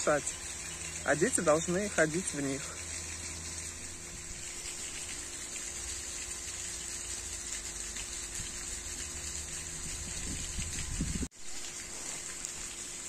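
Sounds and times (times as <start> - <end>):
constant high hiss: 0.0 - 13.0
running water rushing: 0.0 - 13.0.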